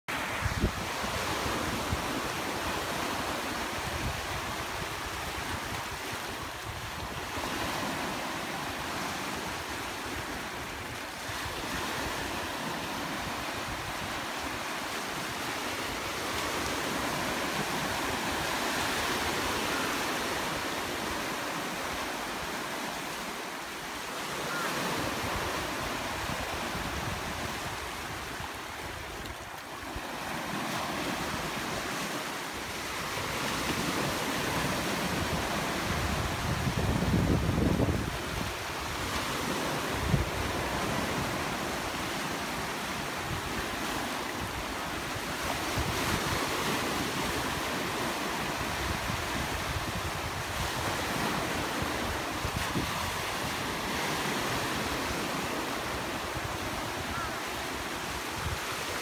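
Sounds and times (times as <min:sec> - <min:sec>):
wind on microphone: 0:00.1 - 0:22.7, 0:24.4 - 0:59.0
surf washing over rocks: 0:00.1 - 0:59.0.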